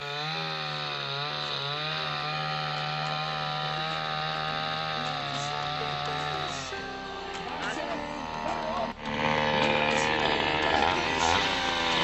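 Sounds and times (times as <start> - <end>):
petrol engine running at high speed: 0.0 - 12.0.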